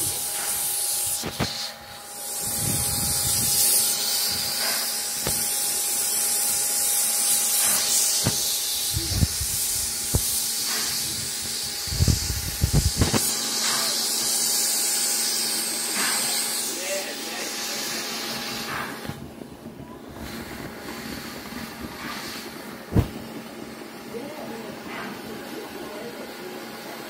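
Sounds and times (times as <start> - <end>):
steam hissing from locomotive: 0.0 - 27.0.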